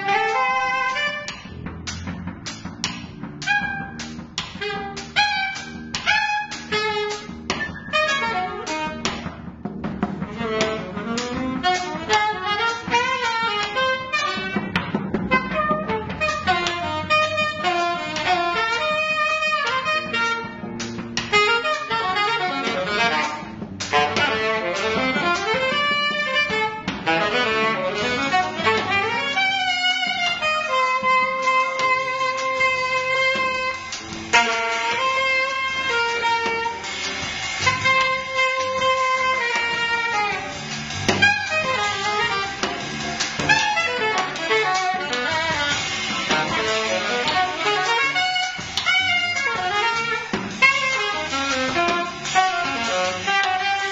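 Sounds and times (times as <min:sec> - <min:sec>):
saxophone playing quick runs: 0:00.0 - 0:01.5, 0:03.4 - 0:09.4, 0:10.3 - 0:53.9
electric bass: 0:00.0 - 0:53.9
jazz band backing: 0:00.0 - 0:53.9
sharp drum strikes: 0:00.0 - 0:53.9.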